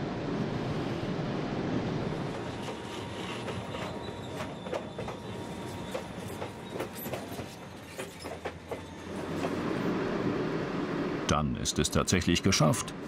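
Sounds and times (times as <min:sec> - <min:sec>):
train wheels rumbling on rails: 0:00.2 - 0:11.3.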